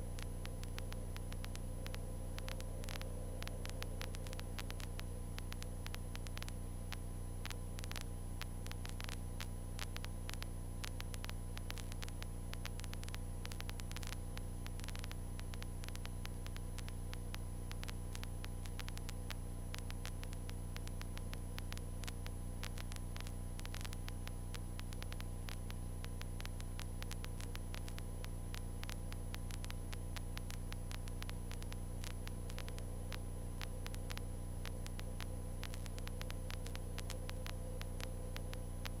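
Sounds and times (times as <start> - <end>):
intercom static clicks and crackle: 0.0 - 39.0.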